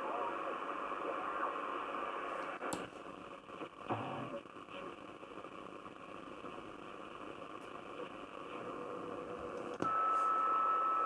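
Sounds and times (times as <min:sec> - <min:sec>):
radio static and hiss: 0:00.0 - 0:11.0.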